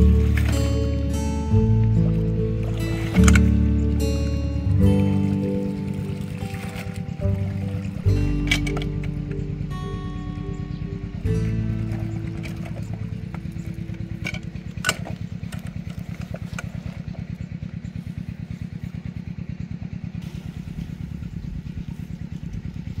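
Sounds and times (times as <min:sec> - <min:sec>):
engine-like idle: 0:00.0 - 0:23.0.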